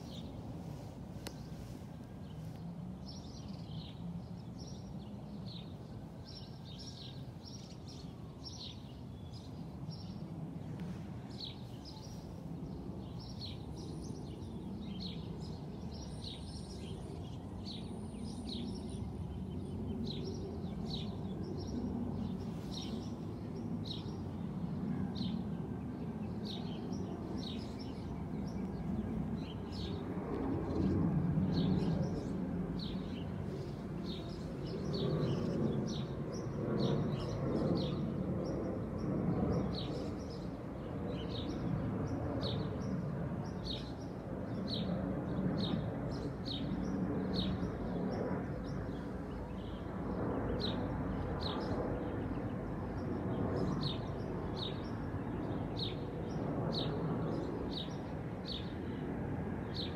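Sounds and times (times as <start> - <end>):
small birds chirping: 0.0 - 59.0, 59.6 - 59.9.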